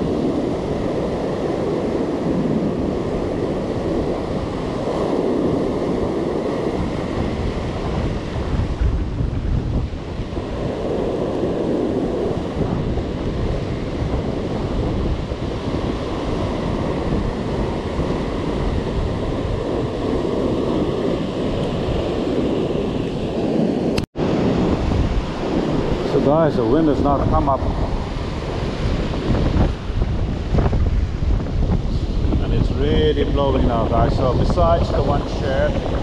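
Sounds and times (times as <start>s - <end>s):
ocean surf breaking on rocks: 0.0s - 36.0s
wind rumbling on microphone: 0.0s - 36.0s.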